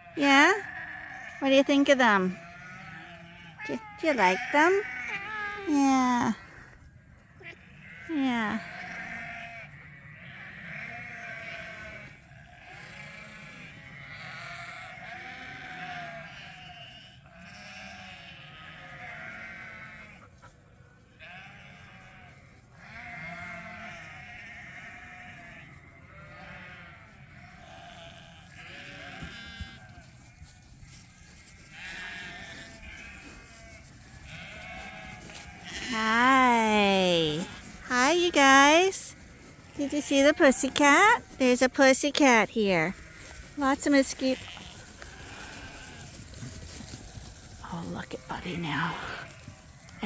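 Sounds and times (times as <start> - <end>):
lambs bleating: 0.4 - 30.4, 31.1 - 50.0.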